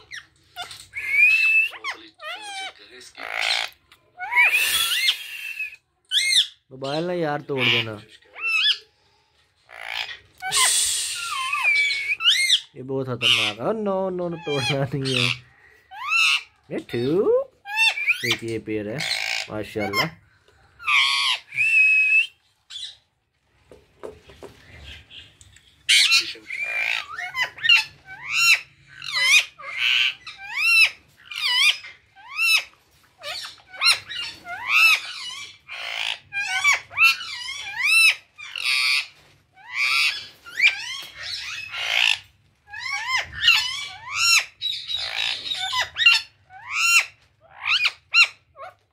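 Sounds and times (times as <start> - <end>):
parakeets squawking: 0.0 - 9.0, 9.6 - 23.1, 24.5 - 48.9.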